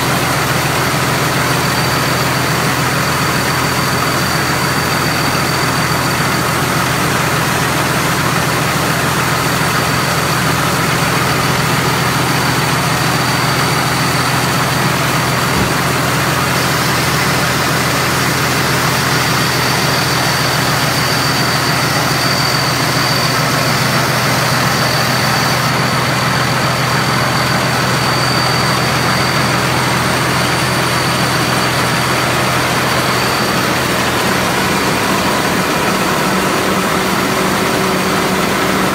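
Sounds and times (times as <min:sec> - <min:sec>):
combine harvester engine roaring: 0:00.0 - 0:38.9
steady high whine: 0:00.0 - 0:38.9.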